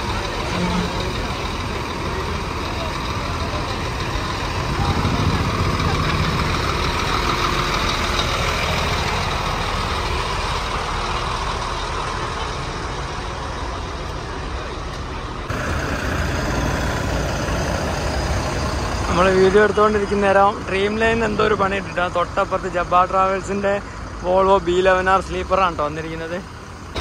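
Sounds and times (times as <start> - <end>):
bus engines idling: 0.0 - 27.0
roadside traffic: 0.0 - 27.0.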